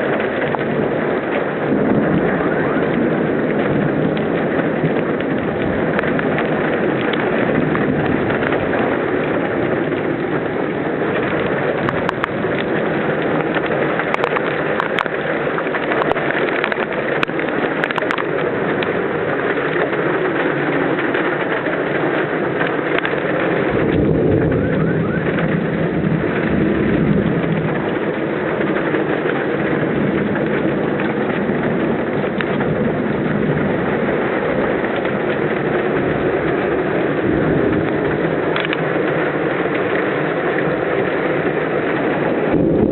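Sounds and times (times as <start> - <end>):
heavy rain: 0.0 - 42.9
low rumble of thunder: 0.0 - 42.9.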